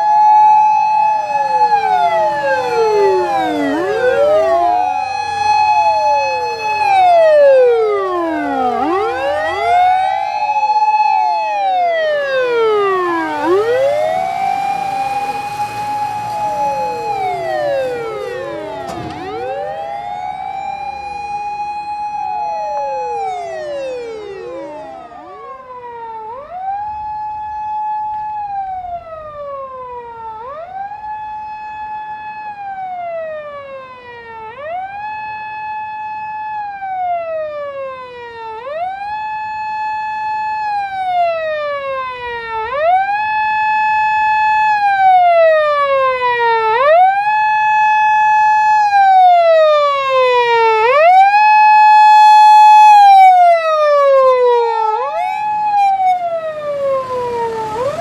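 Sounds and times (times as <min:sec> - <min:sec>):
emergency vehicle sirens wailing: 0:00.0 - 0:58.0.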